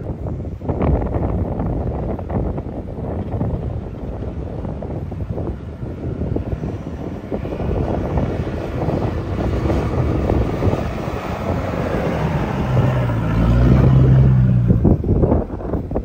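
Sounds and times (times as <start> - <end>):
wind buffeting microphone: 0.0 - 16.0
engine pulling hard: 3.1 - 16.0.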